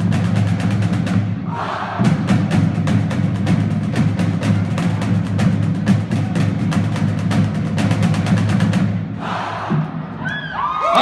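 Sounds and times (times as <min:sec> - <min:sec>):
rapid snare drum strokes: 0:00.0 - 0:10.1
bass drums: 0:00.0 - 0:10.3.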